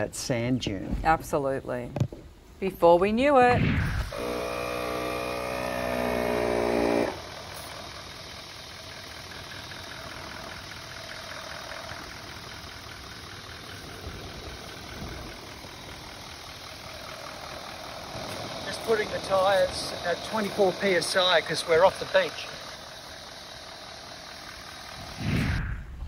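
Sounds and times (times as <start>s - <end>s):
air compressor running: 3.8s - 25.6s.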